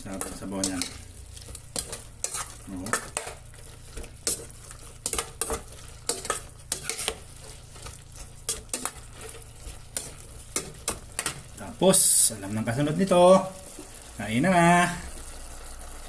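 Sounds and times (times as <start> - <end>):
utensil scraping a pan: 0.1 - 14.1.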